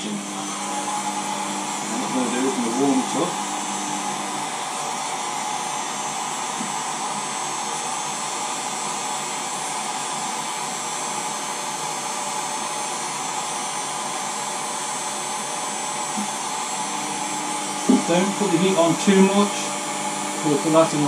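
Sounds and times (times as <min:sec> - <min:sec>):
hot-air blower whooshing: 0:00.0 - 0:21.0.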